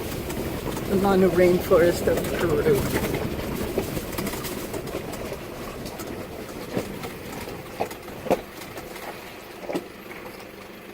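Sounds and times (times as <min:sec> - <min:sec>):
road noise: 0:00.0 - 0:10.9.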